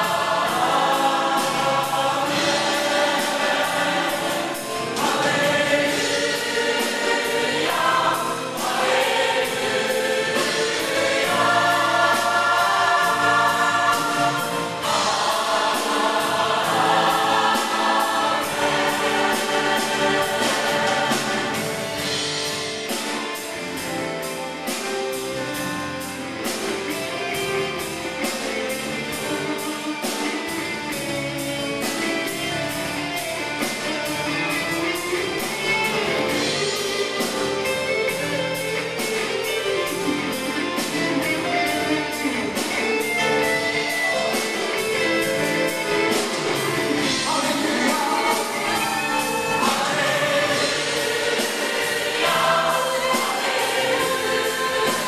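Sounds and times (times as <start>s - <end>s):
gospel band music: 0.0s - 55.0s.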